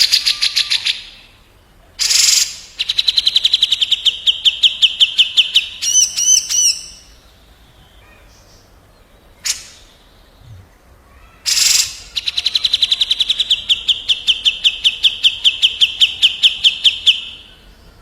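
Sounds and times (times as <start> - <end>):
bulbul birdsong whistles: 2.0 - 10.5, 11.5 - 17.8.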